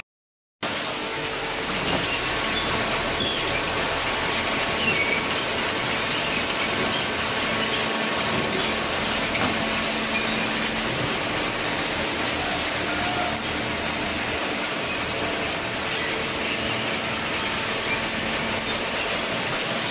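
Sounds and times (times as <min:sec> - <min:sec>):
baler and conveyor running: 0:00.6 - 0:19.9.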